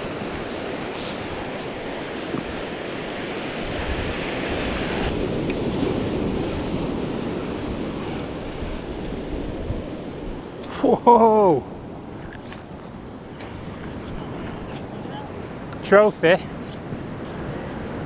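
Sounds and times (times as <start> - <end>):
wind rumbling on microphone: 0.0 - 10.7, 11.6 - 15.8
surf washing up beach: 0.0 - 18.0.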